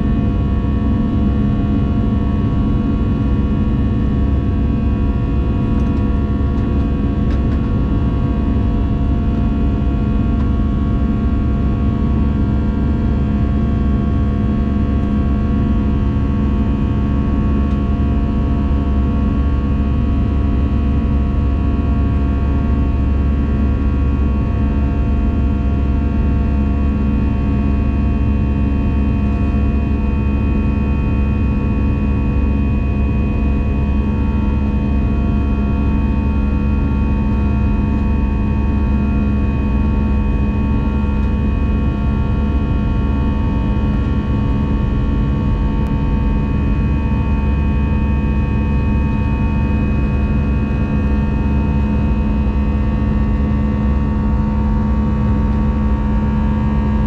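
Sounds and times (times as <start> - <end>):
airplane cabin engine drone: 0.0 - 57.0.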